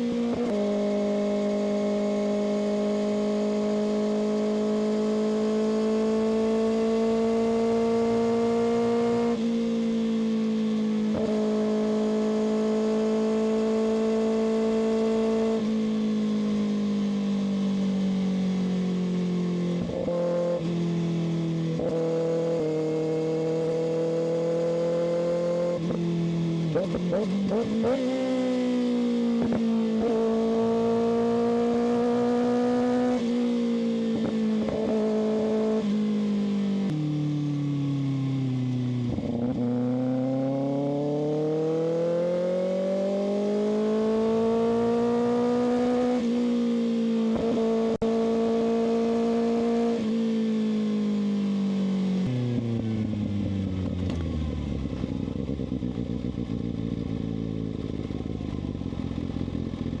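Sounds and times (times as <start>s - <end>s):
motorcycle engine revving and idling: 0.0s - 60.0s.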